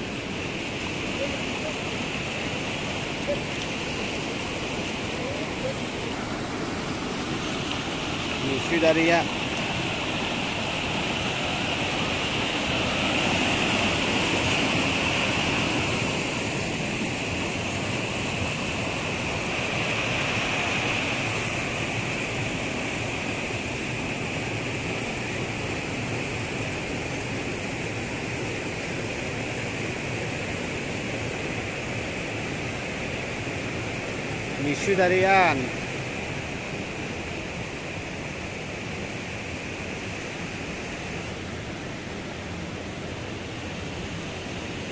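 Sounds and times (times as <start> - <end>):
stream rushing over boulders: 0.0 - 44.9.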